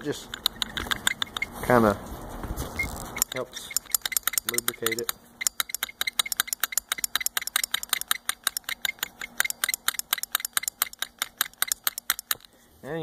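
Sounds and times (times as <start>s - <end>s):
throttle linkage clicking and rattling: 0.0s - 1.6s, 2.8s - 12.5s.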